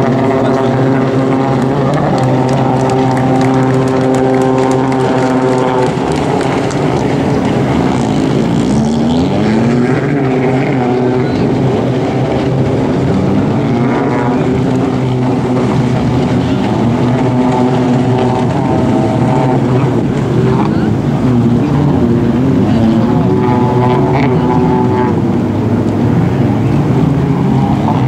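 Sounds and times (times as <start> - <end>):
jet-ski engines whining: 0.0 - 28.0.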